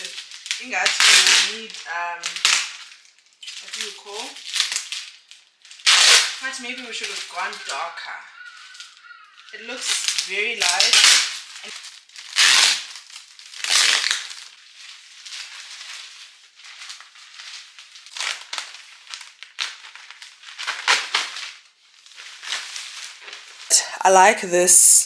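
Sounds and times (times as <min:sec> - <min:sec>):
plastic wrapping crinkling: 0:00.0 - 0:23.9.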